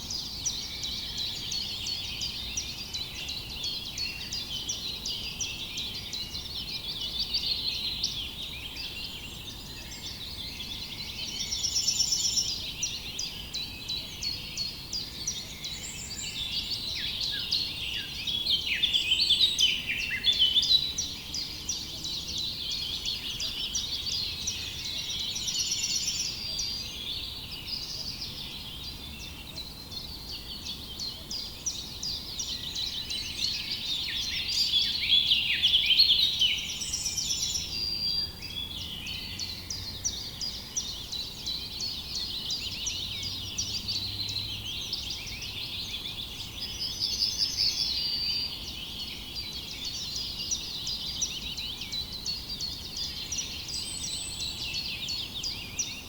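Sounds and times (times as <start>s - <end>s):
small birds chirping chorus: 0.0s - 56.0s.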